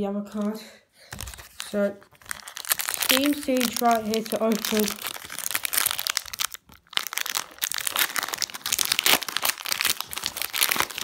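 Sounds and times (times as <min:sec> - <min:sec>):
foil wrapper crinkling and tearing: 0:01.2 - 0:11.0.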